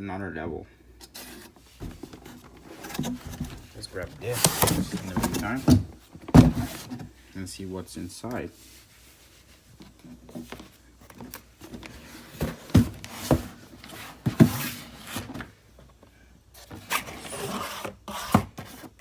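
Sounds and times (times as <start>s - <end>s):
rustling of box and paper: 1.0s - 7.3s, 8.4s - 19.0s.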